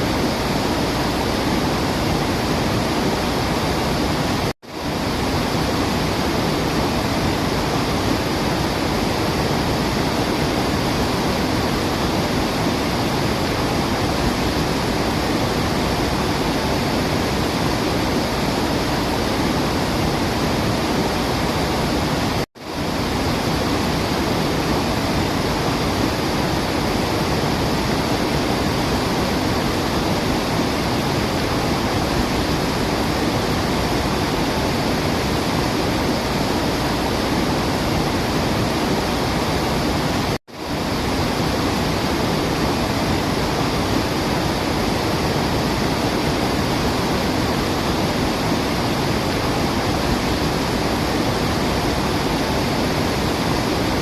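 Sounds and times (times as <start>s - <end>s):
falling water rushing: 0.0s - 54.0s.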